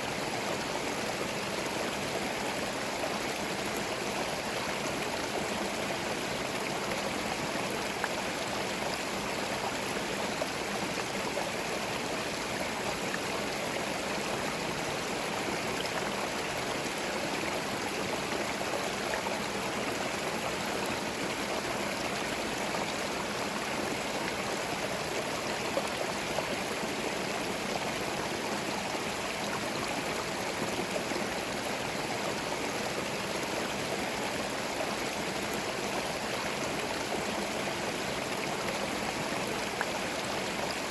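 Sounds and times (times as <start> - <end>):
stream flowing over stones: 0.0 - 40.9.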